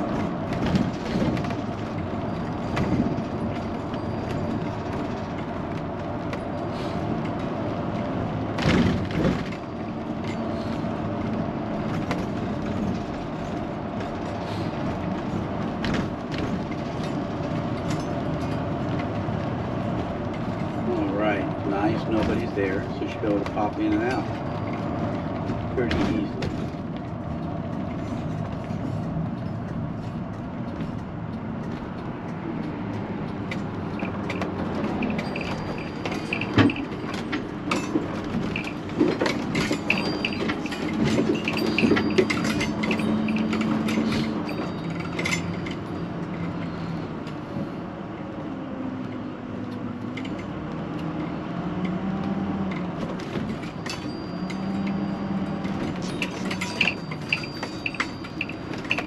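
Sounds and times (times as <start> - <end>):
loose things rattling: 0.0 - 46.9, 52.7 - 59.0
engine and road hum: 0.0 - 59.0.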